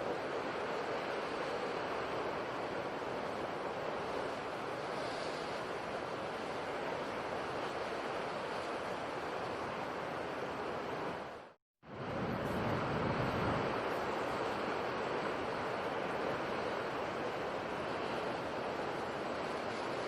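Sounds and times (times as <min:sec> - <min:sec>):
sea waves and surf: 0:00.0 - 0:20.0.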